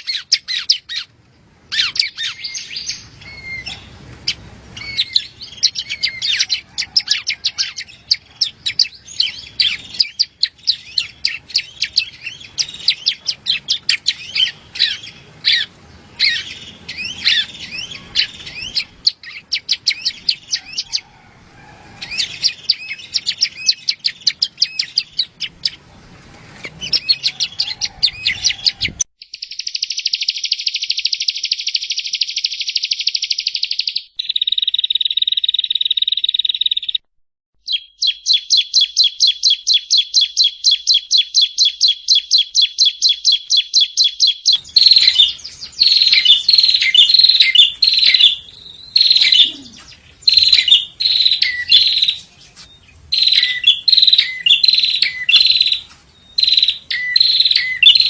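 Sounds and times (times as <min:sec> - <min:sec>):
bird chirping and trilling: 0:00.0 - 0:21.1, 0:22.0 - 0:26.0, 0:26.8 - 0:37.0, 0:37.6 - 0:58.0.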